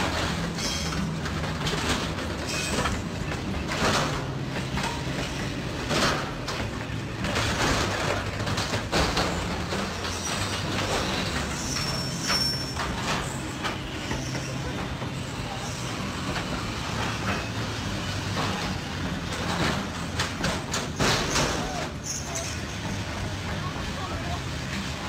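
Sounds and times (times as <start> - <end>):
metal crunching and grinding: 0.0 - 23.7
train low rumble: 0.0 - 25.0.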